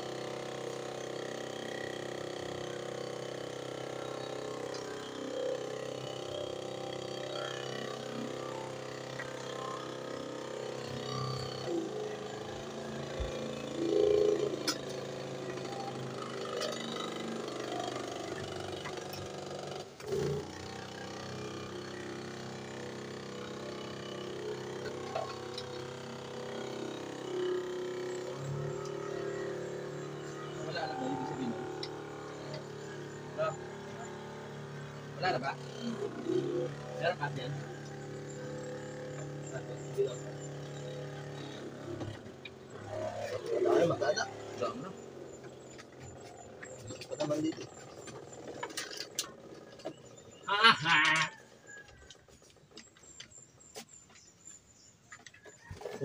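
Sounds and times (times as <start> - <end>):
sprayer pump motor humming: 0.0 - 54.0.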